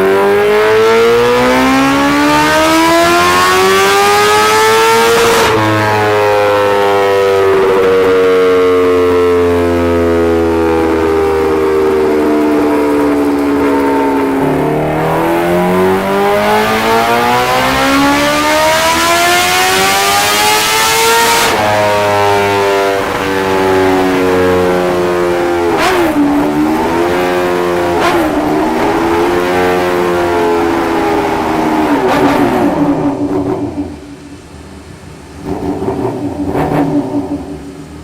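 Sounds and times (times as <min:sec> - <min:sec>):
motorcycle engine revving: 0:00.0 - 0:38.0
sharp exhaust cracks: 0:00.0 - 0:38.0.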